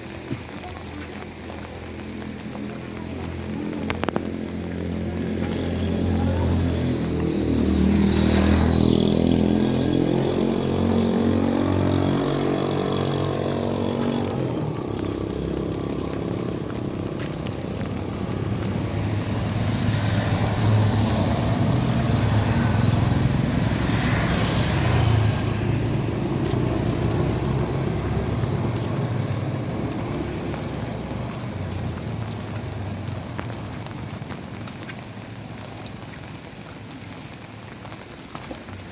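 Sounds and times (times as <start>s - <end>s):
tyres hissing on wet surface: 0.0s - 36.3s
rain: 0.0s - 38.9s
vehicles passing on wet road: 0.0s - 38.9s.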